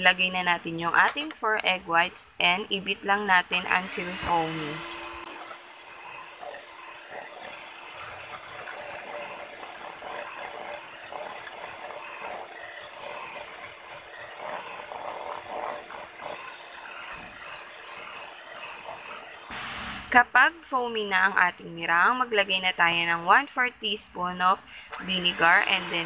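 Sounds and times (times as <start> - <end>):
electric hand mixer whipping: 0.0 - 20.2, 24.7 - 26.0.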